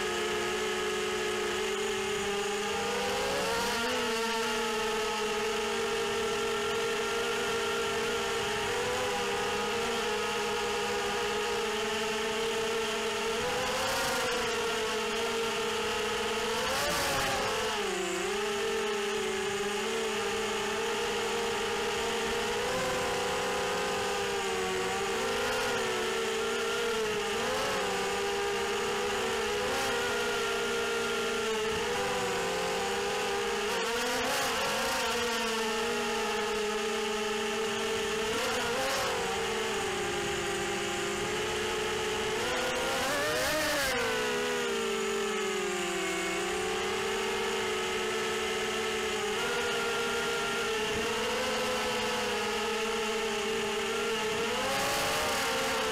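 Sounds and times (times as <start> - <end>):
quadcopter propellers whining: 0.0 - 55.9.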